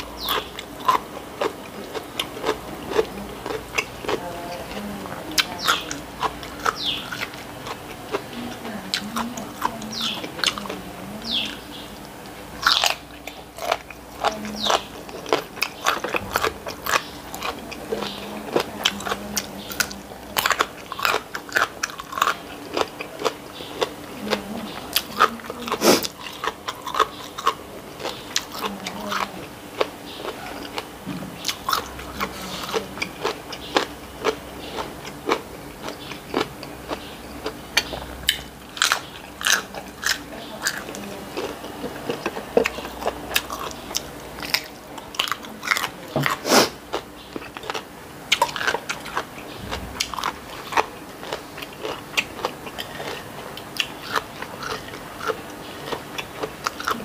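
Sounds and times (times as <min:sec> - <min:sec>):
faint steady hum: 0:00.0 - 0:57.0
person chewing crunchy food: 0:00.0 - 0:57.0.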